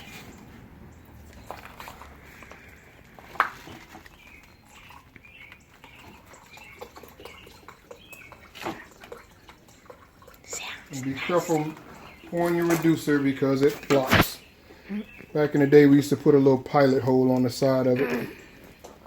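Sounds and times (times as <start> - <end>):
faint liquid gurgles: 0.0 - 19.0.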